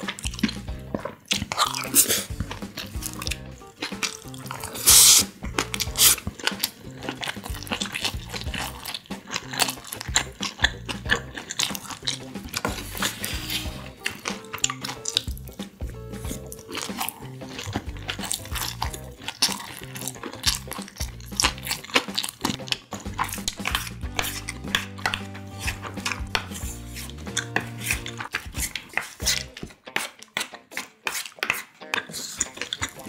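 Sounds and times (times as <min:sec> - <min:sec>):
low background music: 0:00.0 - 0:33.0.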